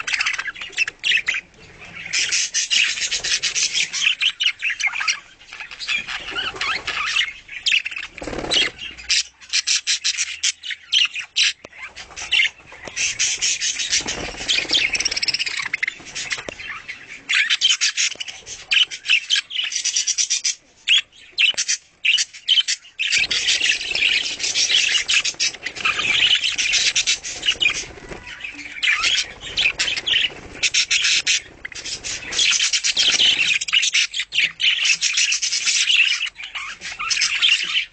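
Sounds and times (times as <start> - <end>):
budgerigars chattering: 0.0 - 37.9.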